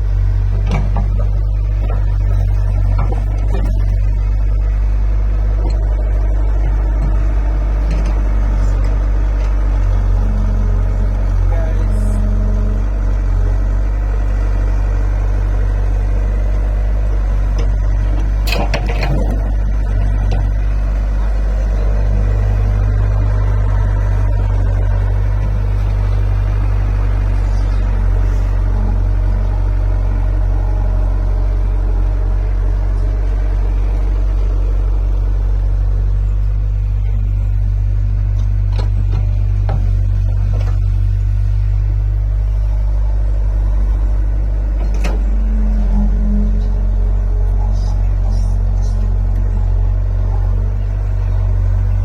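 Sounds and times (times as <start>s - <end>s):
diesel engine rumbling: 0.0s - 52.0s.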